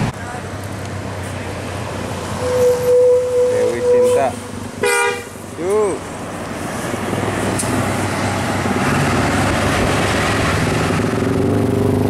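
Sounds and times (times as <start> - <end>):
coach diesel engine passing: 0.0 - 12.0
tyre and road noise: 0.0 - 12.0.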